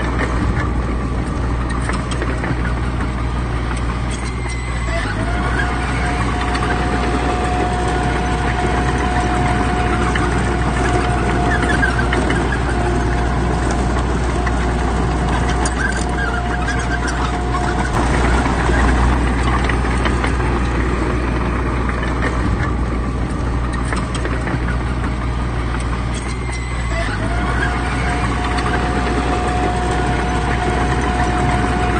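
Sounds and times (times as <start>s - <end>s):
diesel machine engine running: 0.0s - 31.9s
thin whine: 4.1s - 31.9s.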